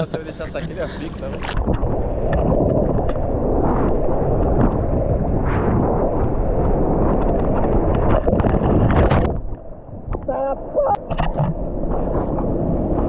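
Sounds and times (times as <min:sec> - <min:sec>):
water rushing under surfboard: 0:00.0 - 0:13.0
wind buffeting microphone: 0:00.0 - 0:13.0.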